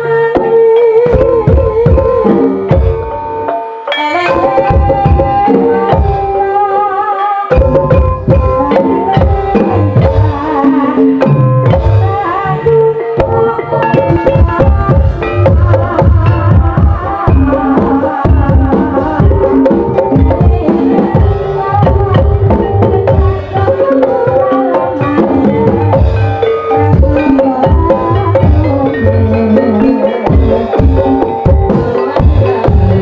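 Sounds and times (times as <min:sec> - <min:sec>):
hand drums beating: 0:00.0 - 0:33.0
ringing pitched percussion: 0:00.3 - 0:33.0.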